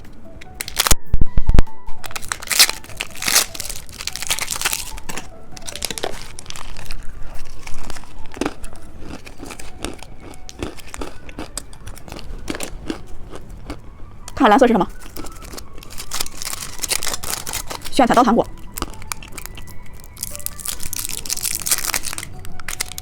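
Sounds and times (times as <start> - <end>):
plastic packaging crinkling: 0.4 - 1.0, 2.0 - 23.0.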